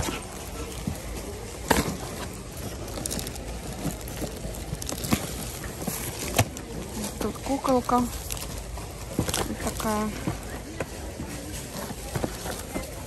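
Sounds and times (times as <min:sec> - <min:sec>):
soft handling noises: 0:00.0 - 0:13.0.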